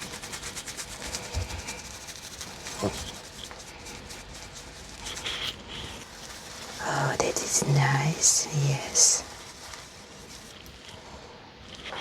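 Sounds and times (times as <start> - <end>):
toothbrush scrubbing fur: 0.0 - 11.0.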